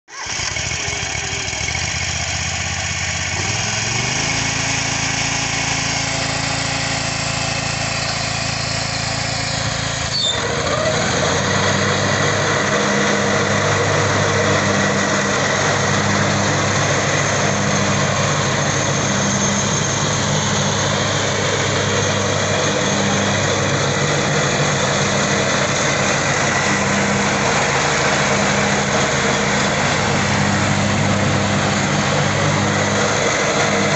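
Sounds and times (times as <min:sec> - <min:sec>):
mower engine running: 0:00.0 - 0:33.9.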